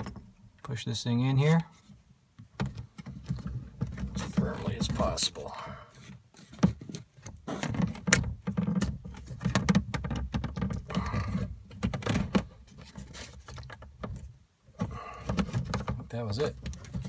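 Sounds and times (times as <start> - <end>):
handling clicks and knocks: 0.0 - 0.8, 1.5 - 5.4, 6.0 - 17.0.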